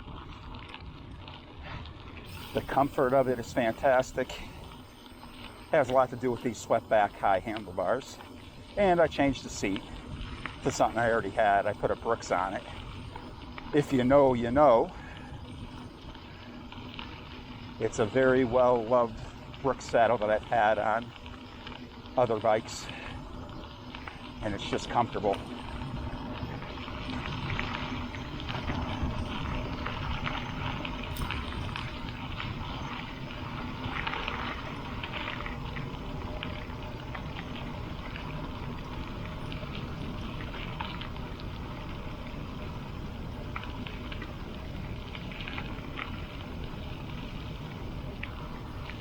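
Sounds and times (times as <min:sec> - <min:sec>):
bicycle tyres on gravel: 0:00.0 - 0:49.0
small stones ticking: 0:00.1 - 0:49.0.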